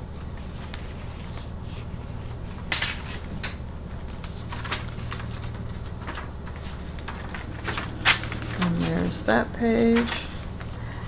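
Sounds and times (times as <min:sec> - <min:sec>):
steady low hum: 0:00.0 - 0:11.0
paper pages turning: 0:00.2 - 0:03.3, 0:03.9 - 0:10.8.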